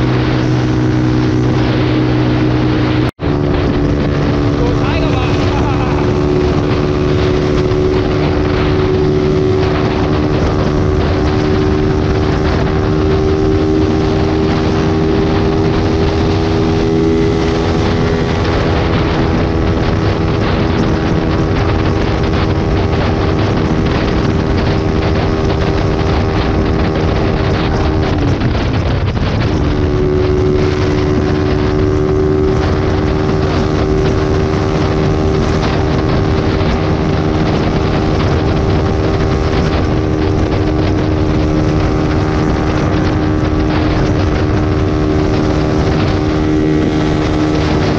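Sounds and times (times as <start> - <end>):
motorcycle engine whine: 0.0 - 47.9
wind rush: 0.0 - 47.9.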